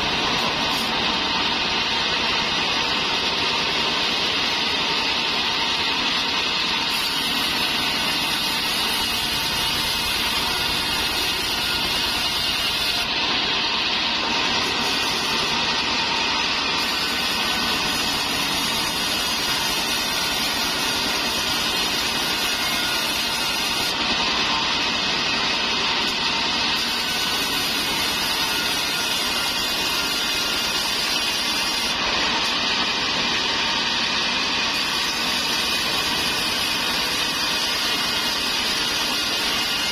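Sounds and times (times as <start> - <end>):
bandsaw cutting wood: 0.0 - 39.9.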